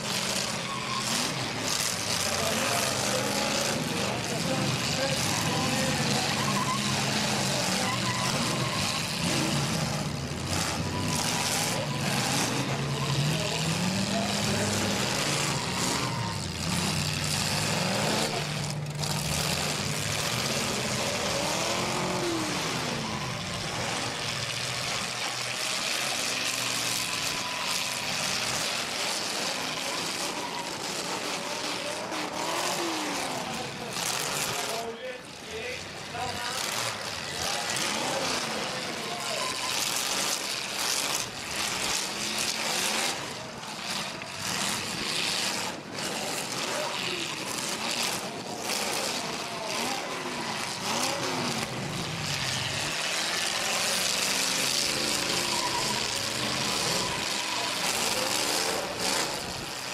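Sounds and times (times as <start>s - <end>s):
car engines revving: 0.0s - 59.9s
crowd noise: 0.0s - 59.9s.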